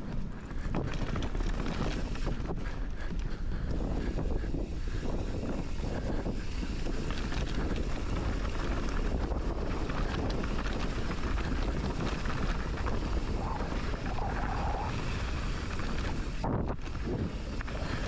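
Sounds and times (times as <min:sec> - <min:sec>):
mountain bike rolling on rough trail: 0:00.0 - 0:18.0
wind buffeting the microphone: 0:00.0 - 0:18.0.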